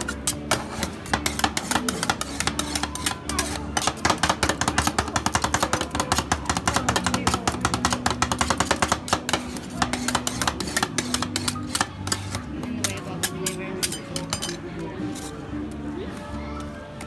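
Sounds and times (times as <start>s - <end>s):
metal spatulas chopping on steel: 0.0s - 15.3s.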